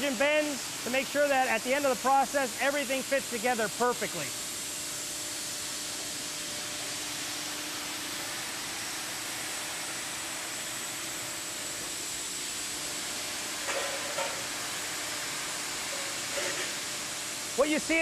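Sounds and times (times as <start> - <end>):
machine shop hiss: 0.0 - 18.0.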